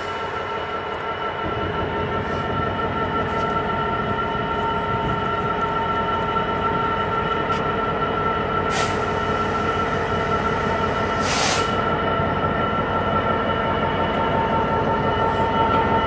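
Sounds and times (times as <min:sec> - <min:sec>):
locomotive engine whining: 0:00.0 - 0:16.0
train rumble: 0:00.0 - 0:16.0.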